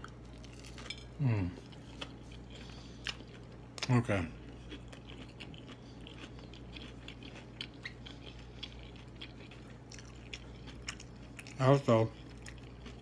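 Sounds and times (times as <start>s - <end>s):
faint low hum: 0.0s - 13.0s
chewing with wet mouth clicks: 1.6s - 13.0s.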